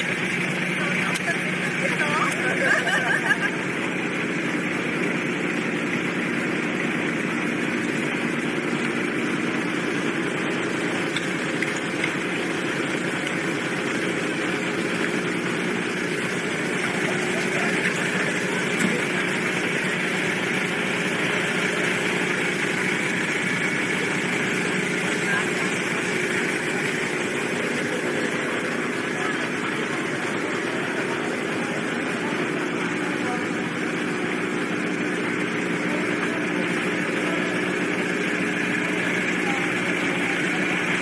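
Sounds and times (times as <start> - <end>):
vehicle engine humming: 0.0 - 41.0.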